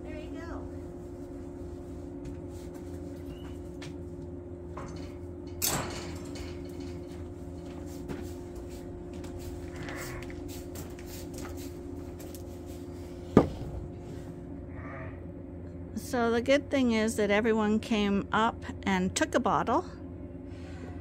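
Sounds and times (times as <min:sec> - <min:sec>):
steady hum with fixed tones: 0:00.0 - 0:21.0.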